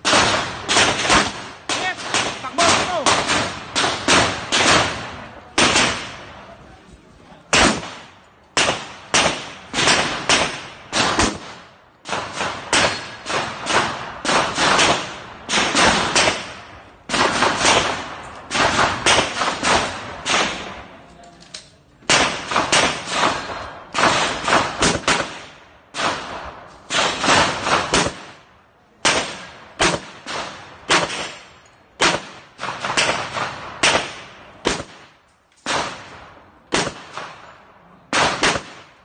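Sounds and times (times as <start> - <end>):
pistol shots with echo: 0.0 - 6.6, 7.5 - 21.0, 22.0 - 39.0.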